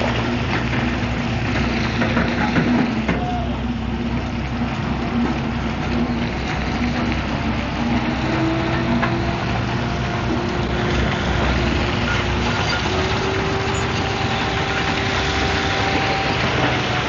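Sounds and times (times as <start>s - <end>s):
bulldozer diesel engine running: 0.0s - 17.0s
faint engine whine: 0.0s - 17.0s.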